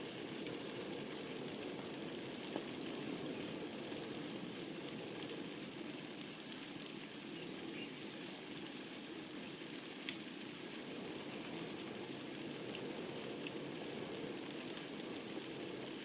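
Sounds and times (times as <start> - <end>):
fire flames rushing: 0.0 - 16.0
logs crackling and popping: 0.0 - 16.0.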